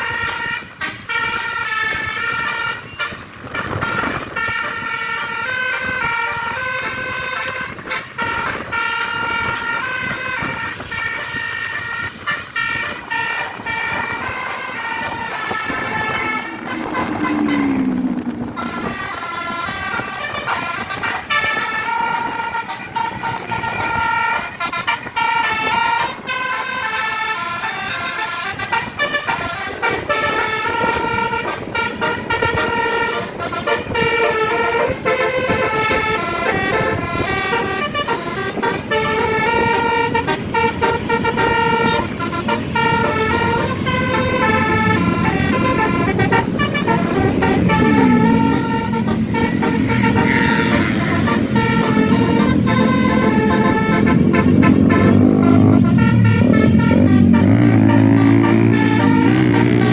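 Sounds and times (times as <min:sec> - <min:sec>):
bus engine running: 0:00.0 - 0:59.9
multi-tone air horn tune: 0:00.0 - 0:59.9.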